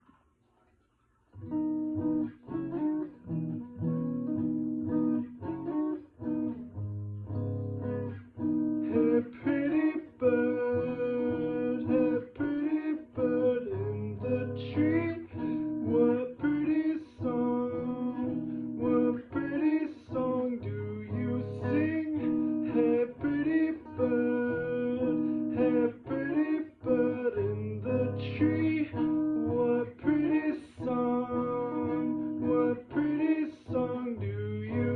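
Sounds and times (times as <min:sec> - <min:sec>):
acoustic guitar picking: 0:01.4 - 0:34.9.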